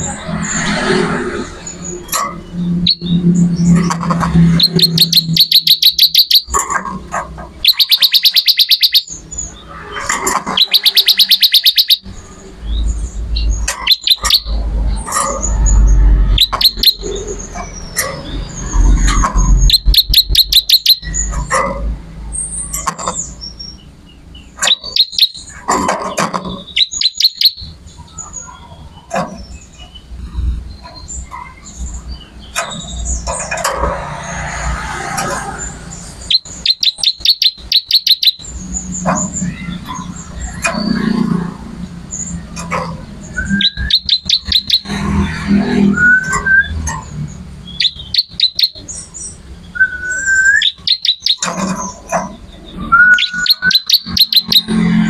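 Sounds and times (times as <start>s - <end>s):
bird singing buzzy trills: 1.3s - 21.5s, 22.3s - 33.7s, 35.6s - 55.0s
bird chips and calls: 1.6s - 21.7s, 22.3s - 30.1s, 35.6s - 41.4s, 42.1s - 55.0s.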